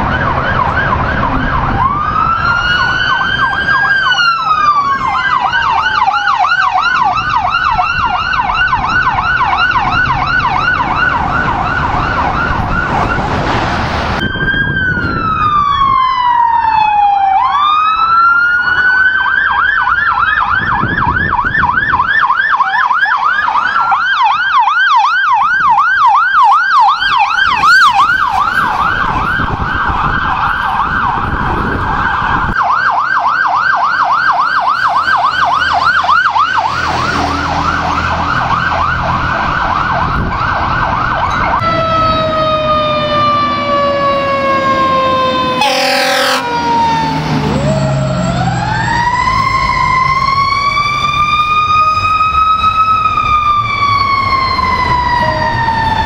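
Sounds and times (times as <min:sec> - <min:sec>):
emergency siren yelp and wail: 0:00.0 - 0:56.0.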